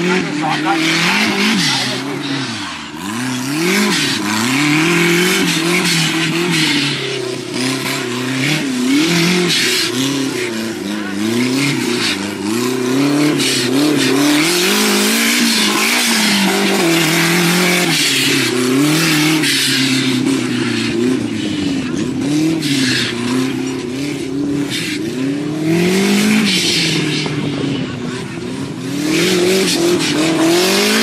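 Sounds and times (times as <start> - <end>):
buggy engine revving hard: 0.0 - 31.0.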